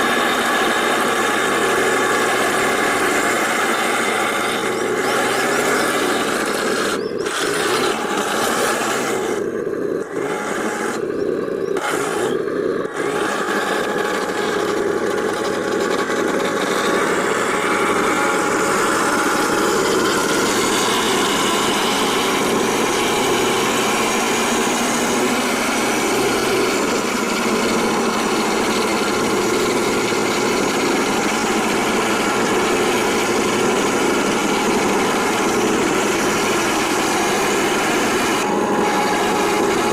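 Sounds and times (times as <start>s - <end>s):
simulated tank engine noise: 0.0s - 39.9s.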